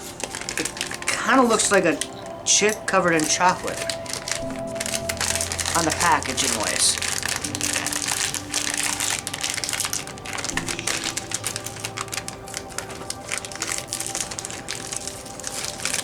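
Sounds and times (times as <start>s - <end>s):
background music: 0.0s - 16.0s
plastic snack bag crinkling: 0.0s - 16.0s.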